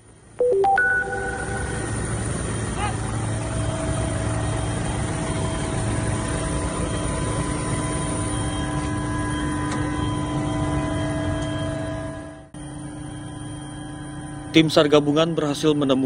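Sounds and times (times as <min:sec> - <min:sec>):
aircraft engine drone: 0:00.0 - 0:16.0
whining tones: 0:00.0 - 0:16.0.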